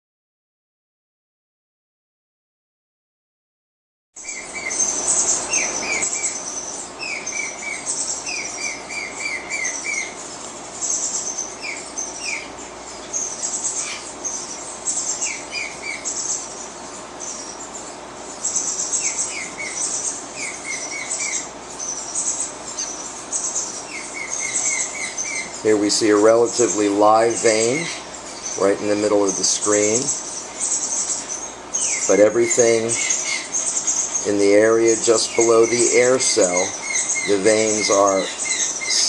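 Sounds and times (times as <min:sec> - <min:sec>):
birds chirping: 0:04.2 - 0:39.0
high-pitched bird chirps: 0:04.2 - 0:39.0.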